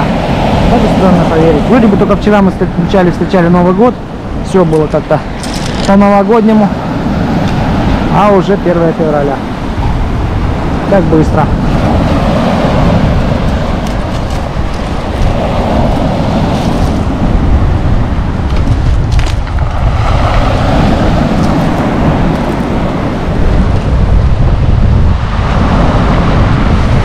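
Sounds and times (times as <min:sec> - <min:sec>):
sea waves breaking on shore: 0:00.0 - 0:27.0
wind buffeting microphone: 0:00.0 - 0:27.0.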